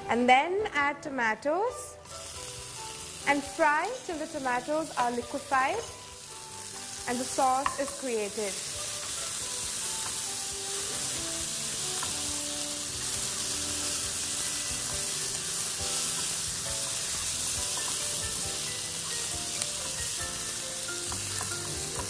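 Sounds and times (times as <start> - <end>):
vegetables sizzling in oil: 2.0 - 22.0.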